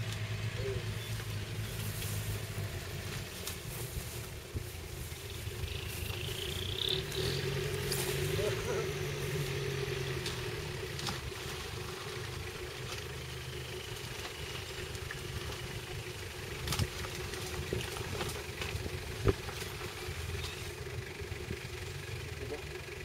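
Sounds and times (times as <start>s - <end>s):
vehicle engine running at low revs: 0.0s - 23.0s.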